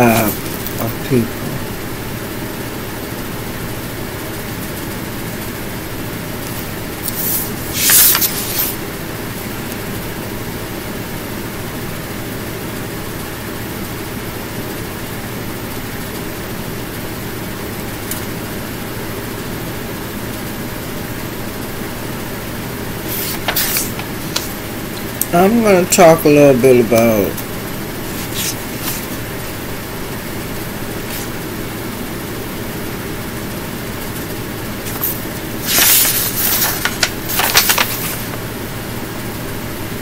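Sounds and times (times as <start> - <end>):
background hum and hiss: 0.0 - 40.0.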